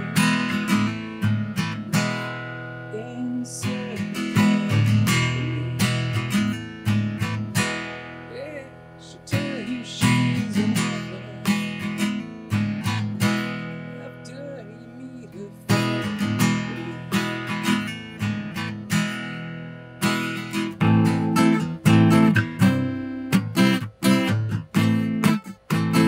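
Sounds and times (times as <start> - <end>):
acoustic guitar chords strummed: 0.0 - 26.0.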